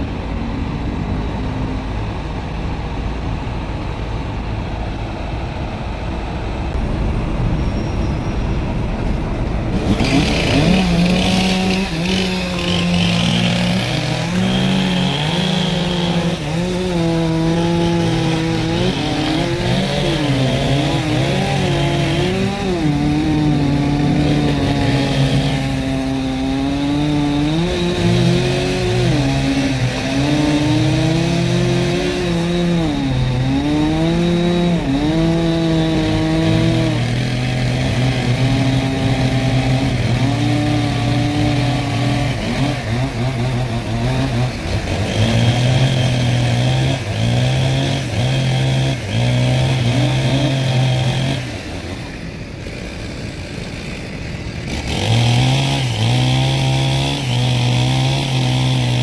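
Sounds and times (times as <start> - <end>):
chainsaw cutting: 9.7 - 59.0.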